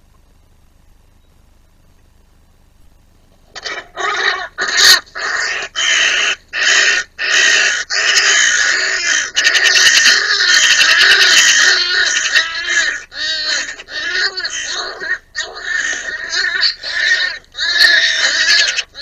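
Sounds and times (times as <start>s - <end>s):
crows giving harsh calls: 3.5s - 19.0s.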